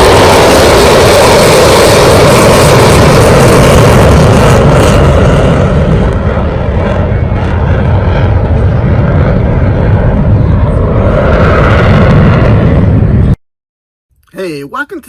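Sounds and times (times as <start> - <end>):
loud steady rumbling: 0.0 - 13.4.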